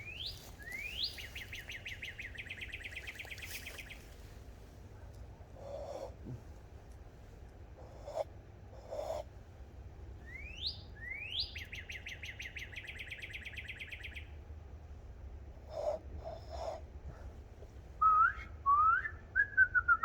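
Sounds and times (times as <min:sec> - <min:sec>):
songbird singing: 0:00.0 - 0:16.9, 0:17.9 - 0:20.0.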